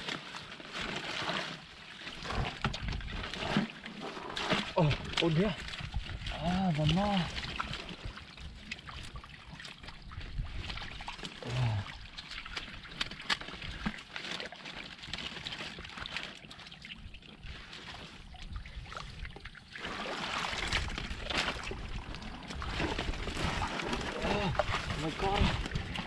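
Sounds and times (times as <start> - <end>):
hands squelching in muddy water: 0.0 - 26.0
water sloshing and trickling: 0.0 - 26.0.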